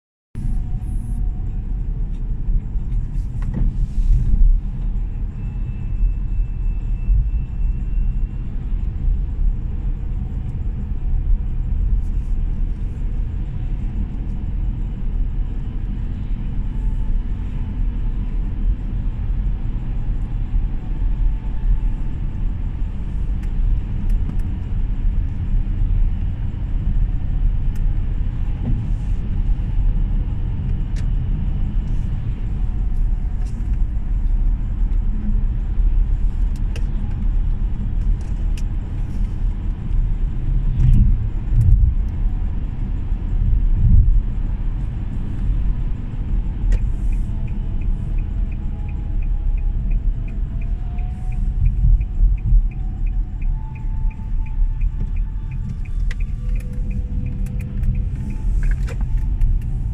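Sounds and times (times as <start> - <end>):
car tyre and road rumble: 0.4 - 59.9.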